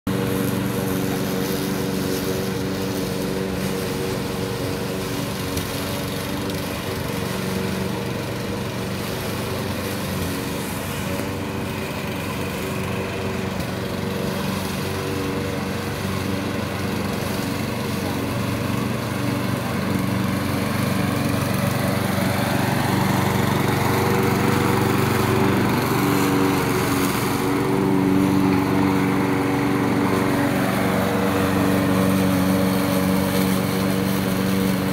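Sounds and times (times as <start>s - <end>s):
lawn mower engine running: 0.1s - 34.9s.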